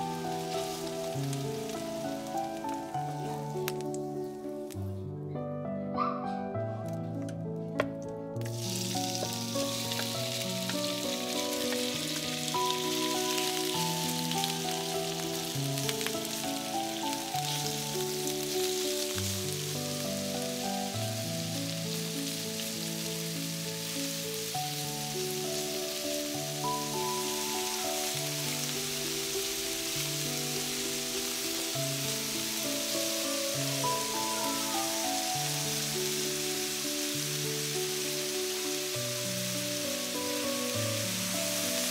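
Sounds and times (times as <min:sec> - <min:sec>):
beef sizzling in frying pan: 0:00.0 - 0:04.3, 0:08.4 - 0:41.9
soft background music: 0:00.0 - 0:41.9.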